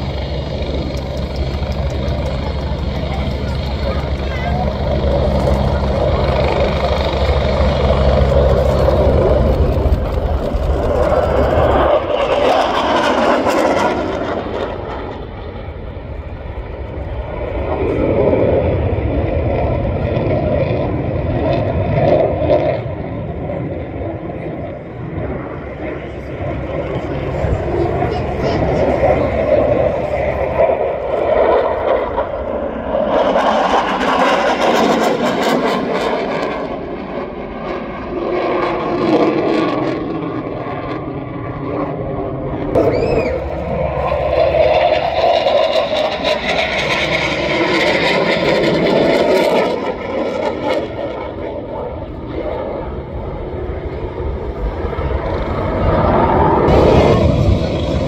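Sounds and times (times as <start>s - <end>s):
plane flying by: 0.0s - 58.0s.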